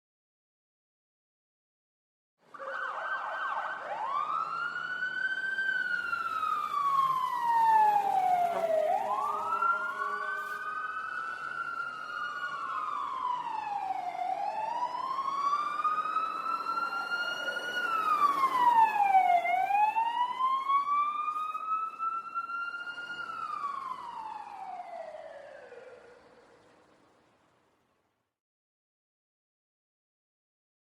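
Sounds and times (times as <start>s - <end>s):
fire truck siren wailing: 2.5s - 27.5s.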